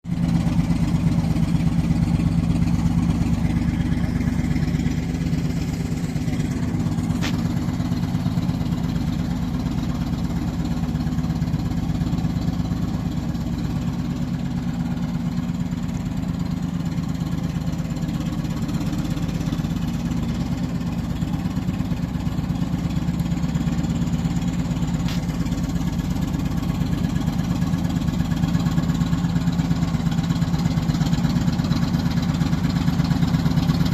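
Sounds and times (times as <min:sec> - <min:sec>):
heavy machinery engine running: 0:00.1 - 0:33.9.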